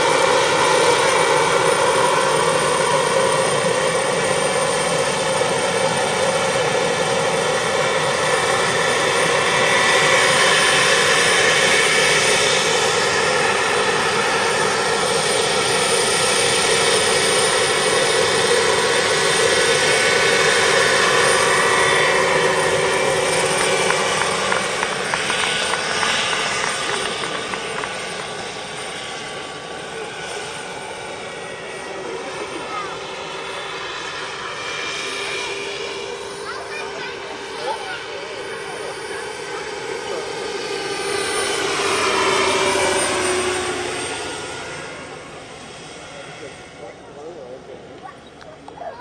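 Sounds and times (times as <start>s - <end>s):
model helicopter motor whine: 0.0s - 49.0s.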